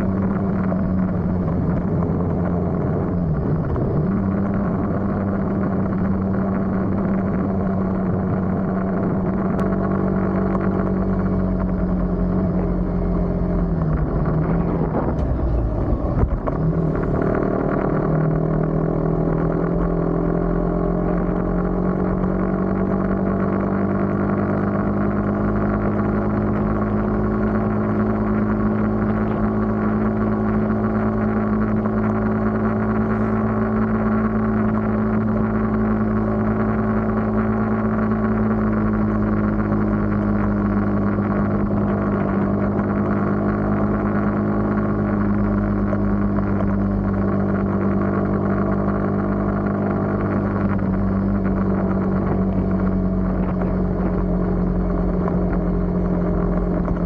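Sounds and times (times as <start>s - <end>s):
road and wind noise: 0.0s - 57.0s
vehicle engine humming: 0.0s - 57.0s.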